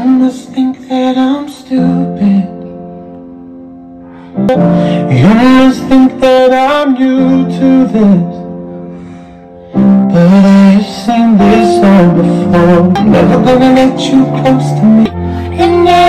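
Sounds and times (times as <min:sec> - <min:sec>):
person singing: 0:00.0 - 0:02.8, 0:04.4 - 0:08.8, 0:09.8 - 0:16.0
held chords: 0:00.0 - 0:16.0.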